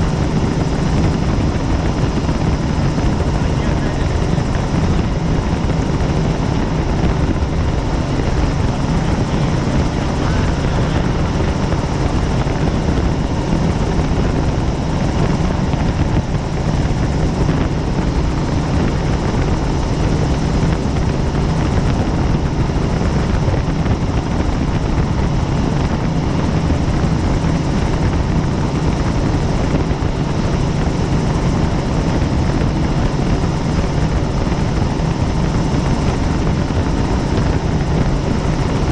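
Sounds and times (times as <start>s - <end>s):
helicopter rotor drone: 0.0s - 38.9s.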